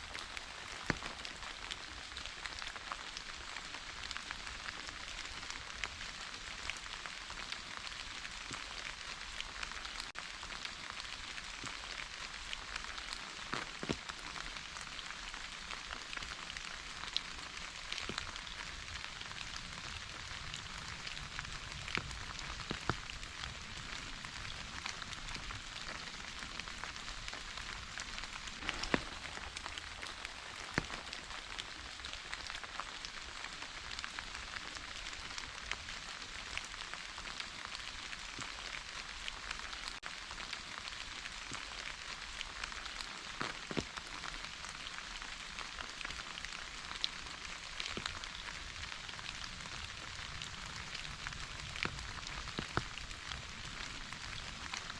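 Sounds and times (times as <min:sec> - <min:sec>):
raindrops ticking on a surface: 0:00.0 - 0:54.9
steady rain hiss: 0:00.0 - 0:54.9.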